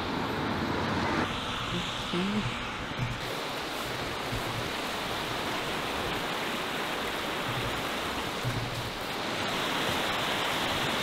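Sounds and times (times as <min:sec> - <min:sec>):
stream rushing over stones: 0:01.2 - 0:11.0.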